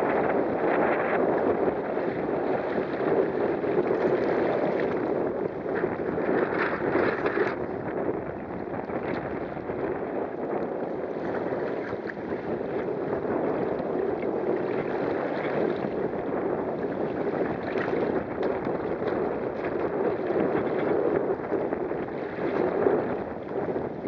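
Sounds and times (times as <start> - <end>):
water splashing along hull: 0.0 - 24.0
wind buffeting microphone: 0.0 - 24.0.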